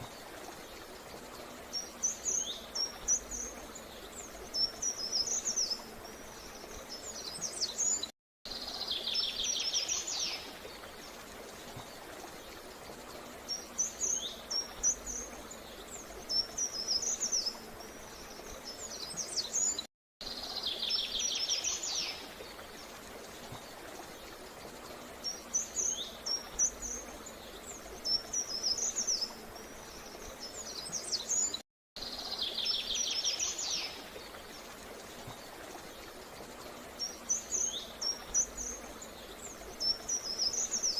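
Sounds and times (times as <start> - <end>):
birds chirping and twittering: 0.0 - 40.9
low background hiss: 0.0 - 40.9.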